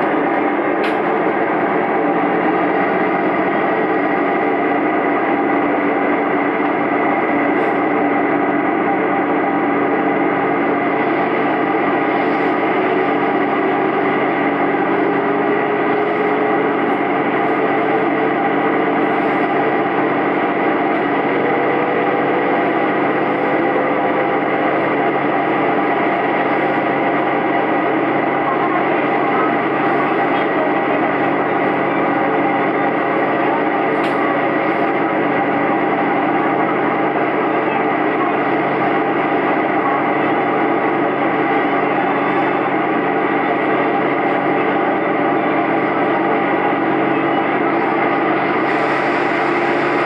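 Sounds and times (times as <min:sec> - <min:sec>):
diesel railcar engine drone: 0:00.0 - 0:50.0.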